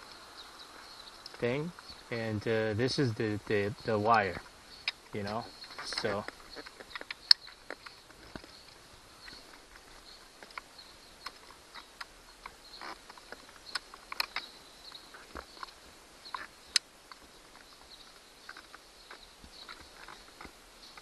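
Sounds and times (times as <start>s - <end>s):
high buzz of insects: 0.0s - 21.0s.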